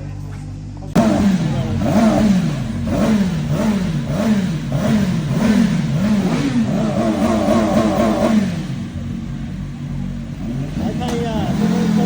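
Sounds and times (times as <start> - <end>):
motorcycle engine revving: 0.9 - 12.0.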